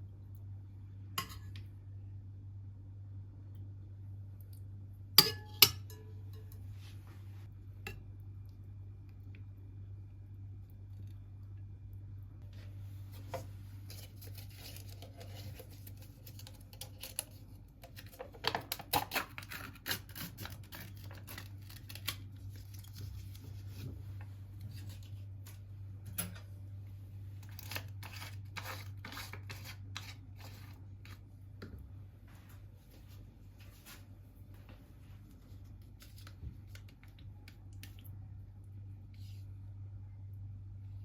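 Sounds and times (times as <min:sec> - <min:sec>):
steady low hum: 0:00.0 - 0:18.1, 0:20.6 - 0:41.0.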